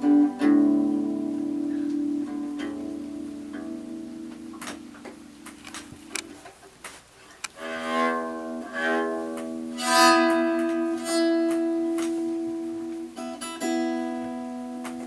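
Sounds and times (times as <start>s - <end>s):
bowed string instrument: 0.0s - 6.8s, 7.4s - 15.0s.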